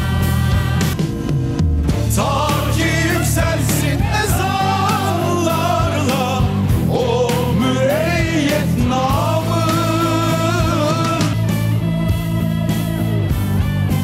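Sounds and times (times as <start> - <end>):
music accompaniment and beat: 0.0 - 14.0.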